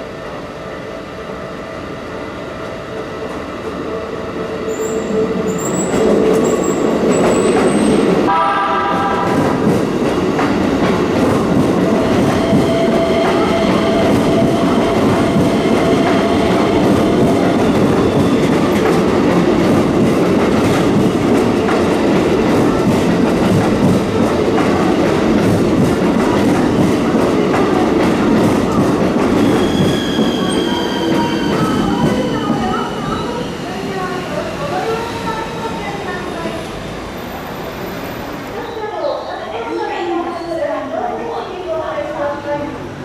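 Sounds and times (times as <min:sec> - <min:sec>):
electric train passing: 0:00.0 - 0:39.7.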